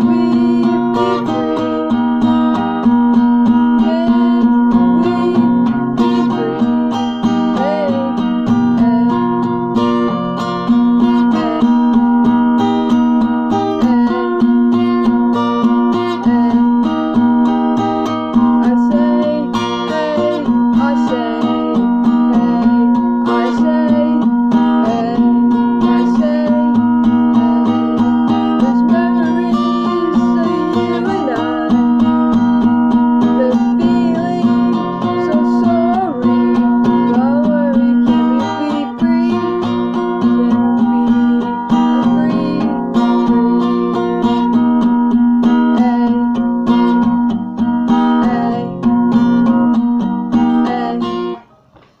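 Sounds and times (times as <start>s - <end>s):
woman singing: 0.0s - 51.4s
acoustic guitar strumming: 0.0s - 52.0s.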